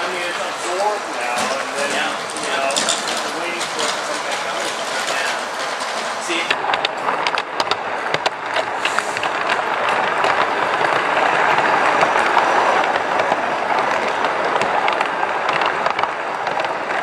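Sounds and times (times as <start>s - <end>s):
small wheels rattling on rail: 0.0s - 17.0s
track clicks: 0.0s - 17.0s.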